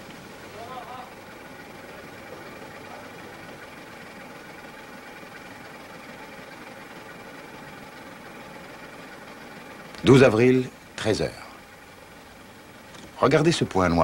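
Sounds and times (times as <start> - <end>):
ship engine hum and rush: 0.0 - 13.6.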